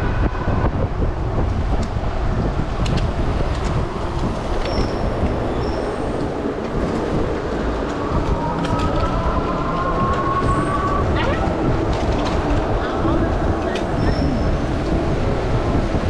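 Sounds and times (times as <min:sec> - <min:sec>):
tyre and road rumble: 0:00.0 - 0:16.0
wind buffeting microphone: 0:00.0 - 0:16.0.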